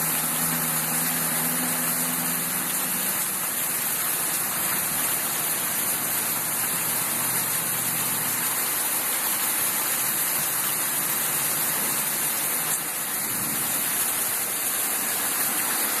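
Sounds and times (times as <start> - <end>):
heavy rain: 0.0 - 16.0
rushing floodwater: 0.0 - 16.0.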